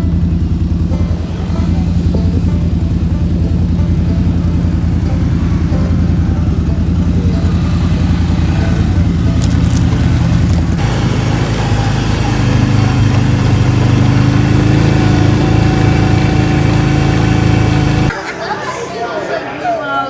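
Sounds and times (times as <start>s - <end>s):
atv engine running: 0.0s - 18.2s.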